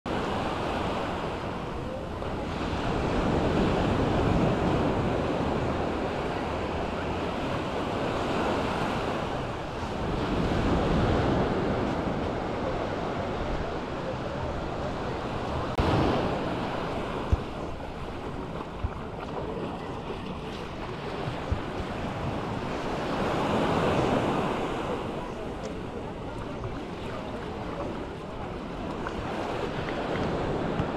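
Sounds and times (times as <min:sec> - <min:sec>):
waves breaking on sandy shore: 0:00.1 - 0:30.9
wind buffeting microphone: 0:00.5 - 0:30.9.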